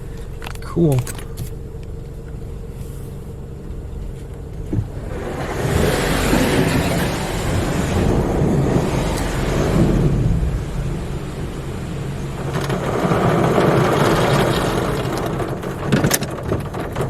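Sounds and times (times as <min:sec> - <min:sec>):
car wash water spraying: 0:00.0 - 0:17.0.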